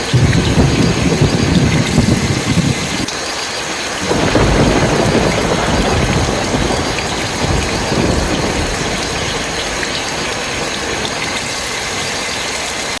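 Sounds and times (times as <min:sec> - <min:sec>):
low thunder rumble: 0:00.0 - 0:03.1, 0:04.0 - 0:12.4
heavy rain falling: 0:00.0 - 0:13.0.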